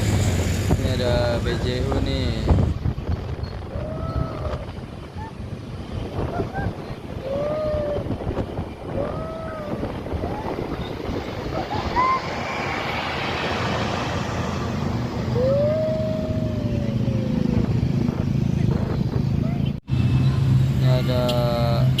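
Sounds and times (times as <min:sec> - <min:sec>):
buses passing on road: 0:00.0 - 0:22.0
low engine hum: 0:00.0 - 0:22.0.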